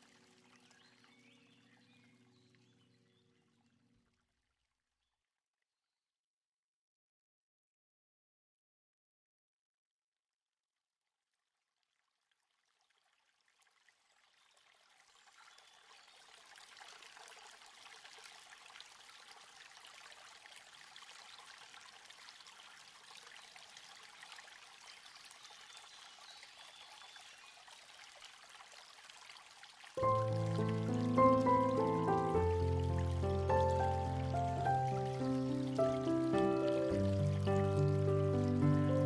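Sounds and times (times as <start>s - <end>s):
faint running water: 0.0s - 5.1s, 11.6s - 39.0s.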